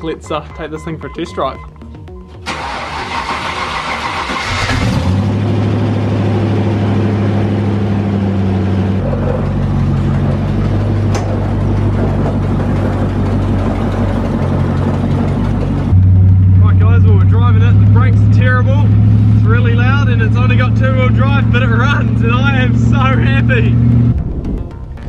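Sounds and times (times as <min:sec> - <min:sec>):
engine starting and idling: 0:02.4 - 0:23.6.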